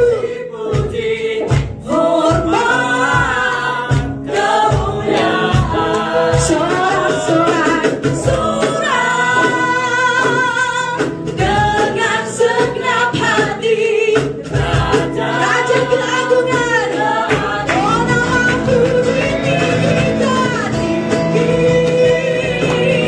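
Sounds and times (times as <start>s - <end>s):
cajon beat: 0.0s - 23.0s
women singing together: 0.0s - 23.0s.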